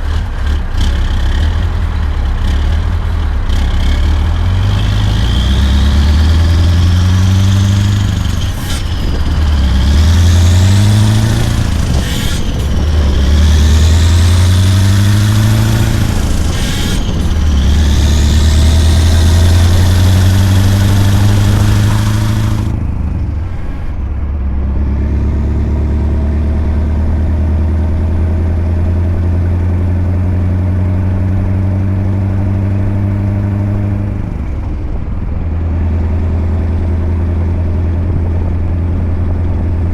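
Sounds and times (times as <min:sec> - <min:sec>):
diesel truck engine accelerating: 0:00.0 - 0:39.9.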